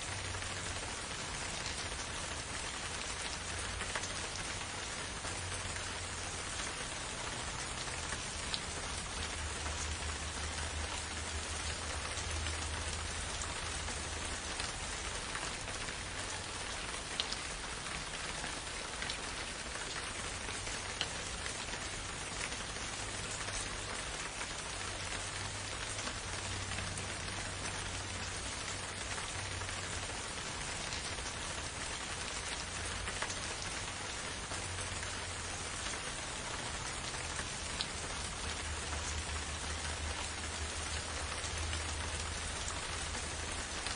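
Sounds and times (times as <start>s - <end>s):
gentle rain falling: 0.0s - 43.9s.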